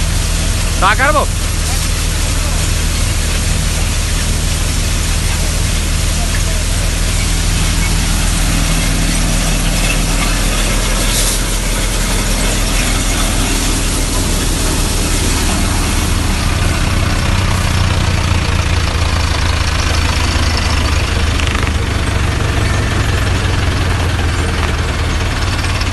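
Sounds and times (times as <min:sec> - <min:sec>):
threshing machine rushing: 0:00.0 - 0:25.9
tractor engine droning: 0:00.0 - 0:25.9.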